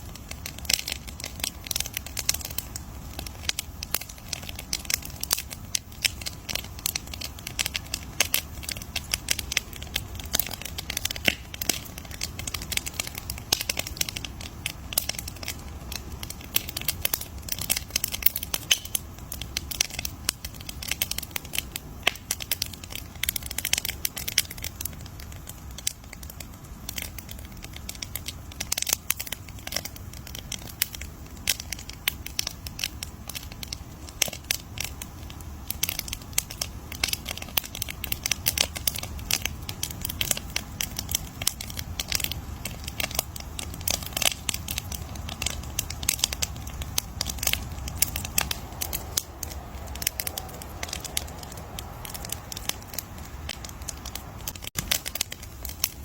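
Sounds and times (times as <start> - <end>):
campfire crackling: 0.0 - 56.0
low steady rumble: 0.0 - 56.0.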